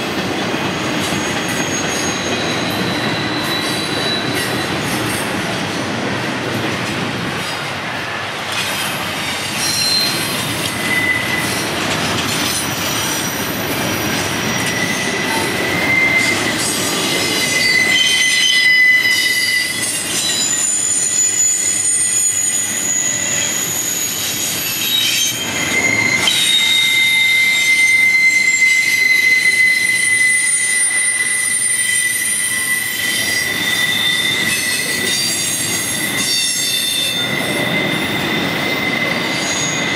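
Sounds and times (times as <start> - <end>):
freight train rumble: 0.0 - 39.9
train wheels squealing on rails: 0.0 - 39.9.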